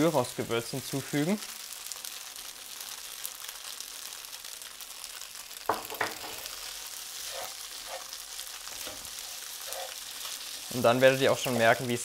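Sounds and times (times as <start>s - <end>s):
tofu sizzling in a pan: 0.0s - 12.0s.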